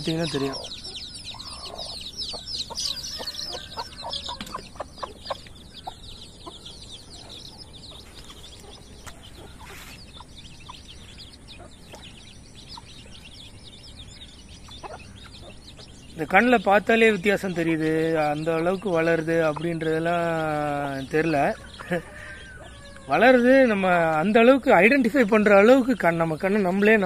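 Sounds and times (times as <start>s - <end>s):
chicks peeping: 0.0s - 27.0s
hen clucking: 0.0s - 27.0s.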